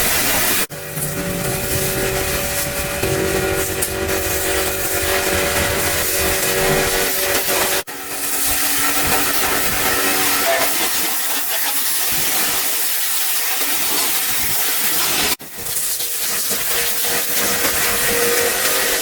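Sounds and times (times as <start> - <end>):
high-pressure jet hissing: 0.0 - 19.0.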